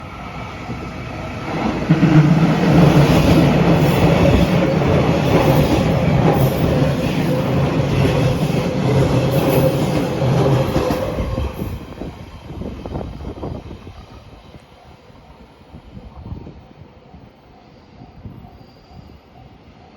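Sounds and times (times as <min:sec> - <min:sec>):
train wheels on rail: 0:00.0 - 0:19.9.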